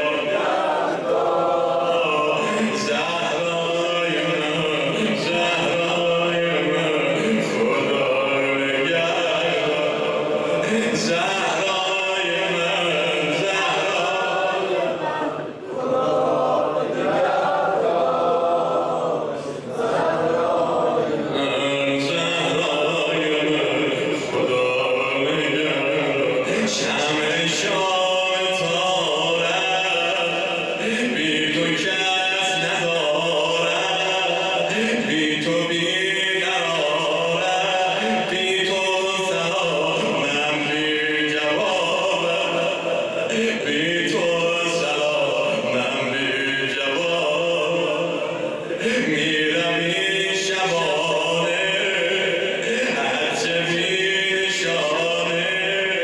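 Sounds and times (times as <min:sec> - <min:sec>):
man chanting poetry: 0:00.0 - 0:56.0.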